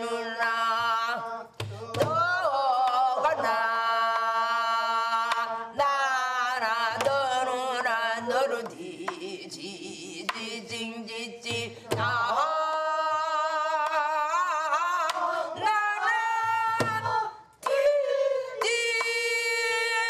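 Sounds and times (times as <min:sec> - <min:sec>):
woman singing with vibrato: 0:00.0 - 0:20.0.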